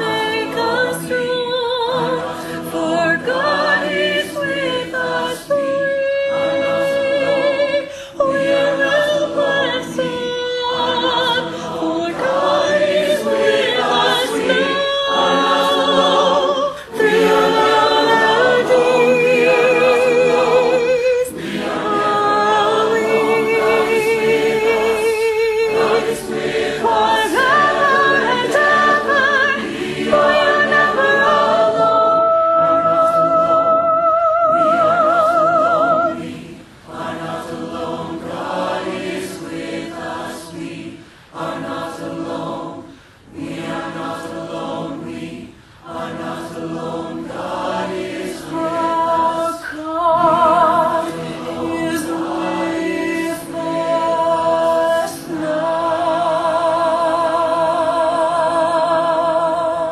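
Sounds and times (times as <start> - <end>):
woman singing with vibrato: 0.0 - 42.6, 43.4 - 59.9
choir singing: 0.0 - 59.9.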